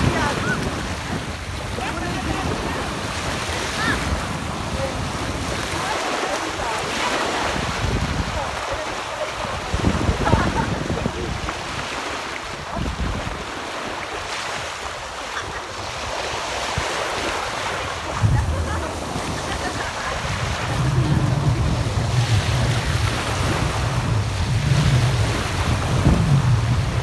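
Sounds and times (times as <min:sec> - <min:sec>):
small waves breaking on shore: 0:00.0 - 0:27.0
wind rumbling on microphone: 0:00.0 - 0:27.0.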